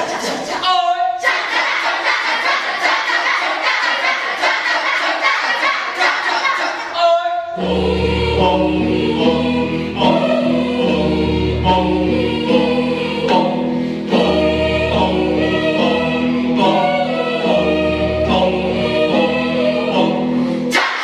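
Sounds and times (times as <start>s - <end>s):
group of young voices singing: 1.2s - 21.0s.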